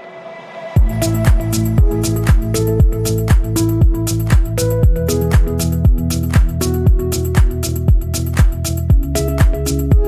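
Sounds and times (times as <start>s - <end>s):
electronic music with kick drum: 0.8s - 10.0s.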